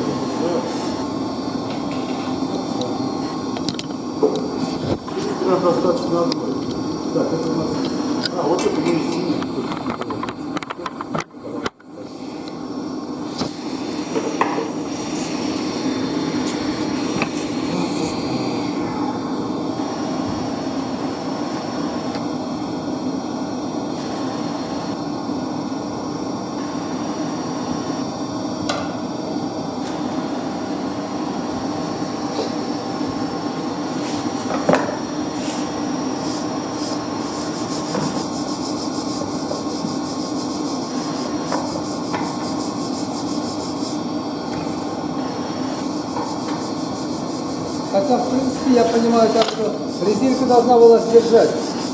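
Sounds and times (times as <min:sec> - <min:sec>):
machinery humming: 0:00.0 - 0:51.9.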